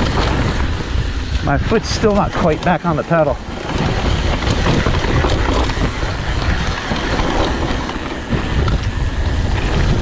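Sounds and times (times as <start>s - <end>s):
mountain bike rattling: 0.0s - 10.0s
tyres rumbling on dirt: 0.0s - 10.0s.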